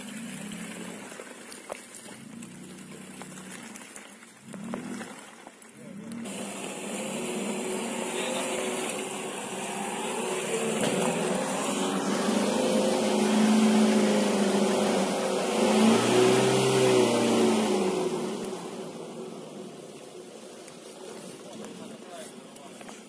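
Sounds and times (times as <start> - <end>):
suv engine revving on muddy track: 0.0 - 23.0.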